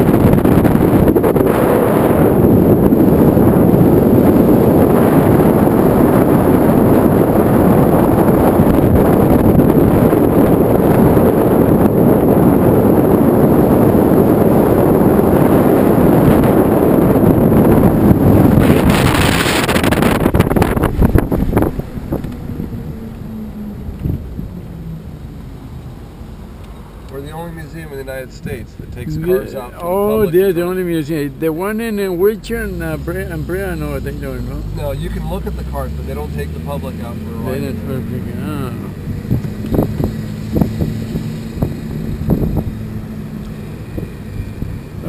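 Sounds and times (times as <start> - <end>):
car running: 0.0 - 45.0
wind buffeting microphone: 0.0 - 45.0.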